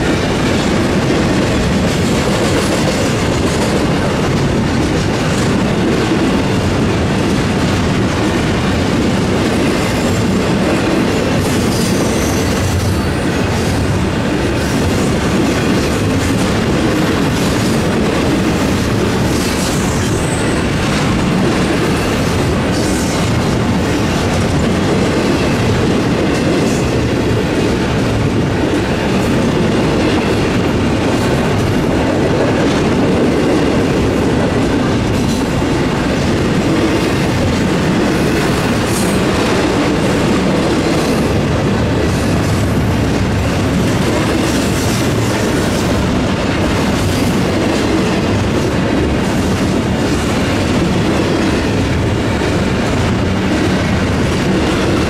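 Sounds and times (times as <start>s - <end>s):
freight train wheels clattering: 0.0s - 55.0s.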